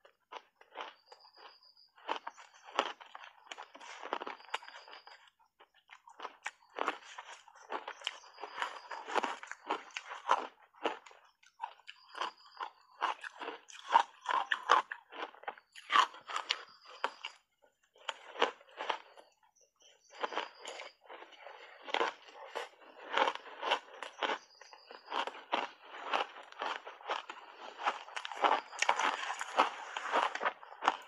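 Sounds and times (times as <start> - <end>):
chewing crunchy ice: 0.0 - 31.0.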